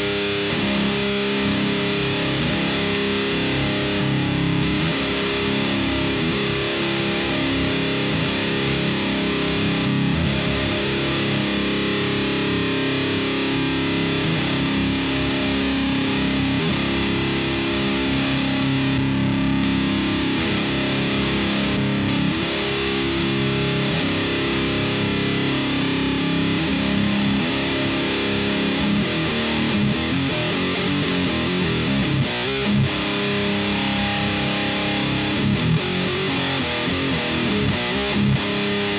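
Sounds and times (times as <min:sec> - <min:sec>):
distorted electric guitar riffing: 0:00.0 - 0:38.9.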